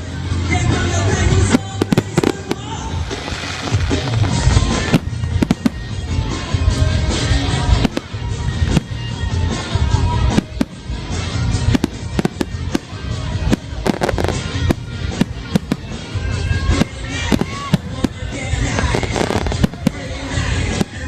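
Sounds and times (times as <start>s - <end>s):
fireworks bangs and cracks: 0.0s - 21.0s
music: 0.0s - 21.0s
deep fireworks booms: 0.9s - 21.0s.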